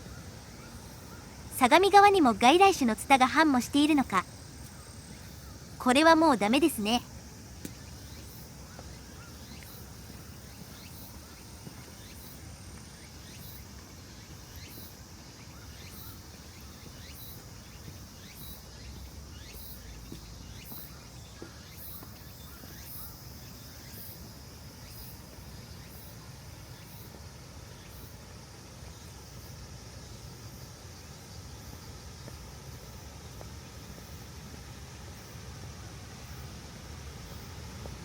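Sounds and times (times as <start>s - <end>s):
insects chirping: 0.0s - 38.0s.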